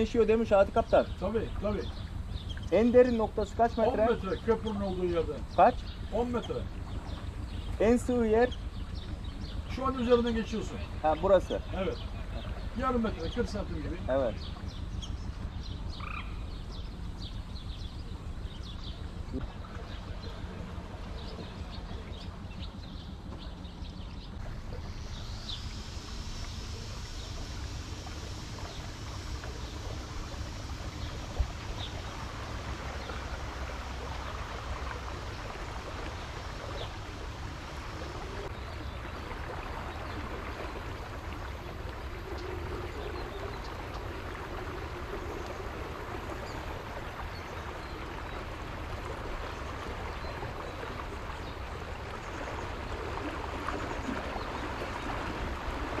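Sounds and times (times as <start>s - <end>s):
boat motor rumble: 0.0s - 56.0s
water rushing along hull: 0.0s - 56.0s.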